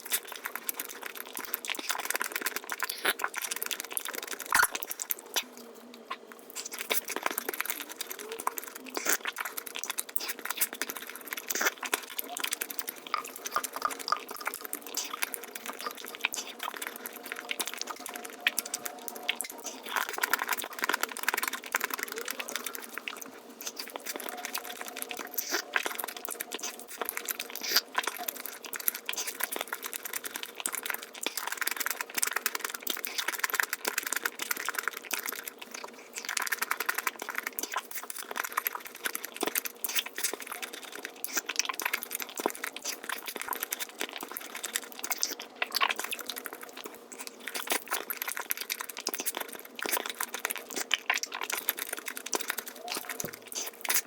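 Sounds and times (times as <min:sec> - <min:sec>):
sped-up chewing and mouth clicks: 0:00.0 - 0:54.0.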